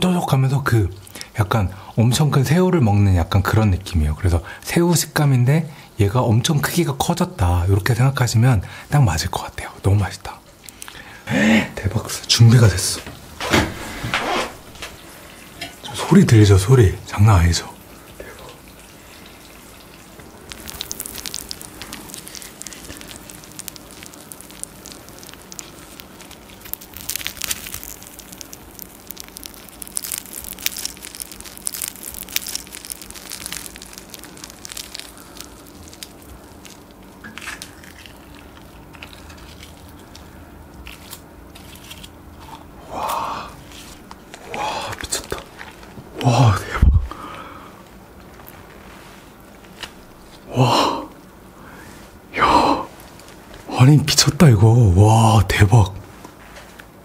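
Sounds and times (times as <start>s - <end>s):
cheese crackling and sizzling: 0.0s - 57.0s
faint steady hum: 0.0s - 57.0s.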